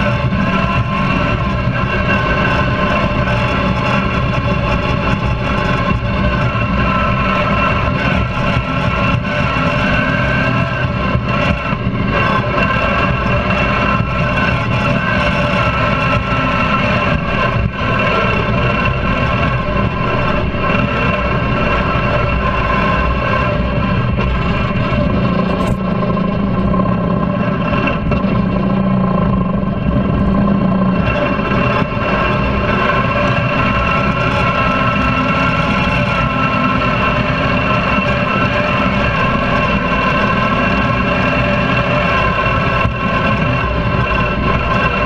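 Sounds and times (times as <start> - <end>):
small petrol engine running: 0.0 - 45.0.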